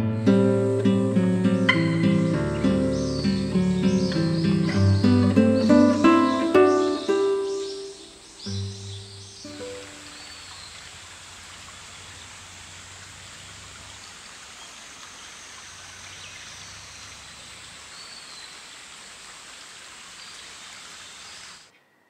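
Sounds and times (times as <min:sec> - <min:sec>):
stream water rushing: 0:00.0 - 0:21.7.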